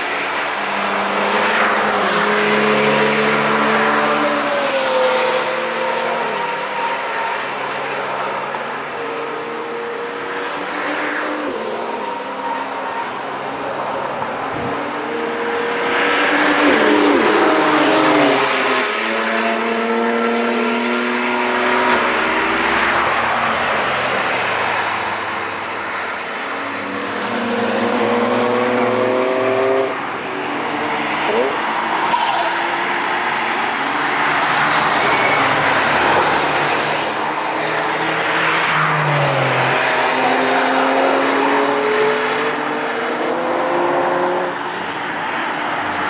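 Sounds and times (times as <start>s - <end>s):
race cars passing and revving: 0.0s - 46.0s.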